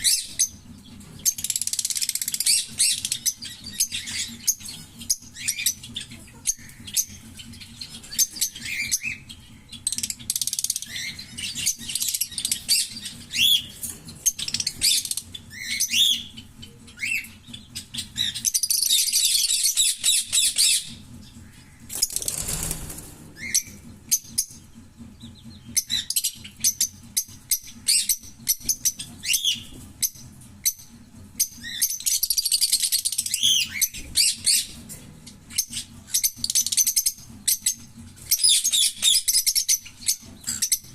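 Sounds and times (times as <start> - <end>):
lovebirds chirping and chattering: 0.0 - 40.9.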